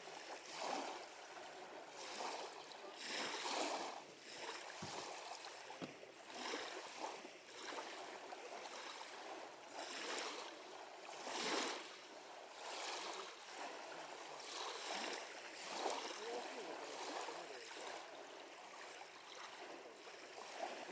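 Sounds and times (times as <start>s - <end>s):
small waves lapping at shore: 0.0s - 20.9s.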